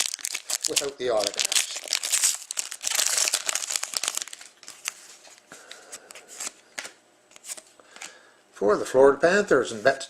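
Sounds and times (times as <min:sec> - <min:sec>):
cards rustling in hands: 0:00.0 - 0:08.2.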